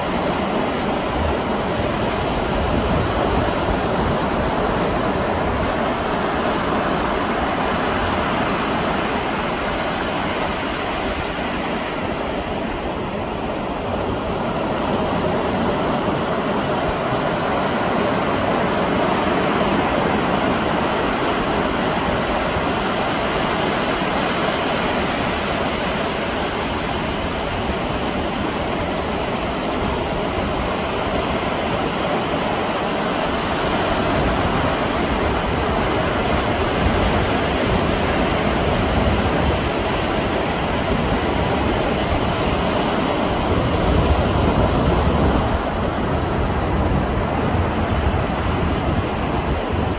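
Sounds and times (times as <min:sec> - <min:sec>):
sea surf washing ashore: 0:00.0 - 0:49.9.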